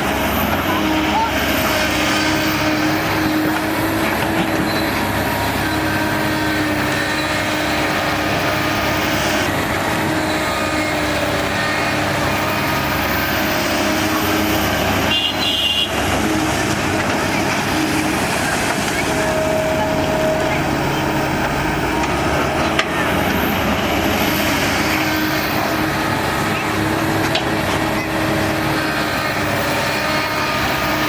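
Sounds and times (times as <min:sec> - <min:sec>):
heavy machinery diesel engine: 0:00.0 - 0:31.0.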